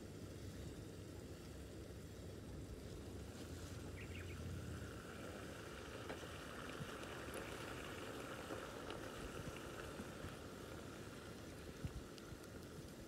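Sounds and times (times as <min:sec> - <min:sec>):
soft even hiss: 0:00.0 - 0:13.0.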